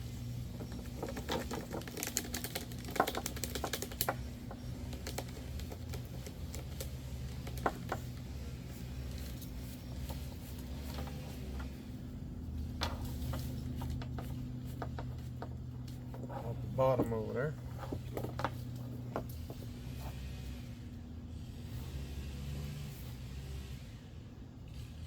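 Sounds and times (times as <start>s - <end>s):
wires rattling inside plastic pipe: 0.0s - 20.3s.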